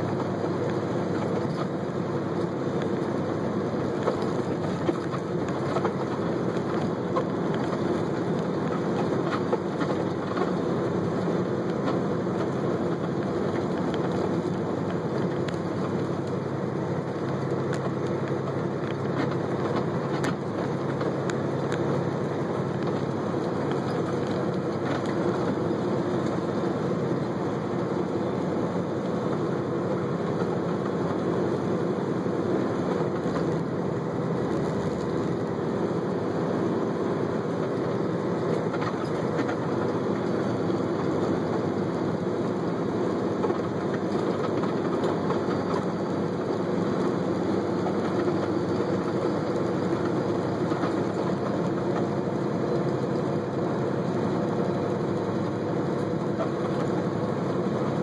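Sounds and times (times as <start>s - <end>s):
car engine hum: 0.0s - 58.0s
car road noise: 0.0s - 58.0s.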